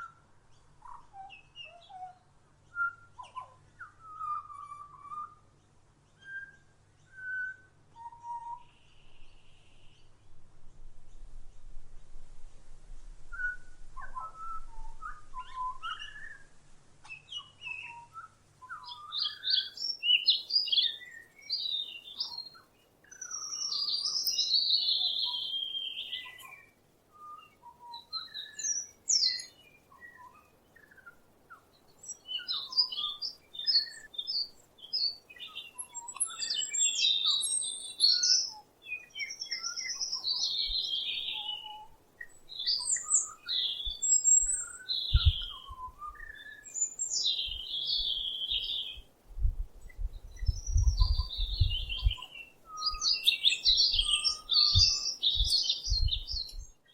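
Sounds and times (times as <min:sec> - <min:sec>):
songbirds singing: 0:00.0 - 0:12.5, 0:13.2 - 0:56.9.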